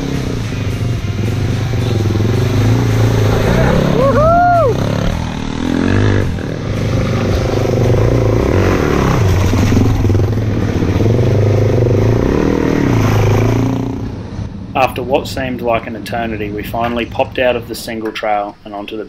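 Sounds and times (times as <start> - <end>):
dirt bike engines revving: 0.0 - 18.4.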